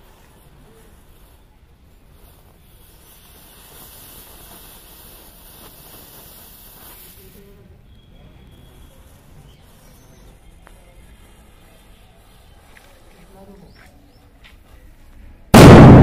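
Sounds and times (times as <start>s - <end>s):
matches flaring with fizzing hiss: 0.0s - 16.0s.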